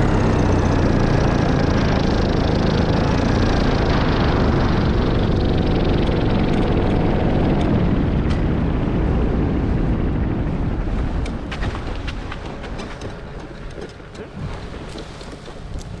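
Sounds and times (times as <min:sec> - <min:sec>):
paramotor engine running: 0:00.0 - 0:16.0
wind rush: 0:00.0 - 0:16.0.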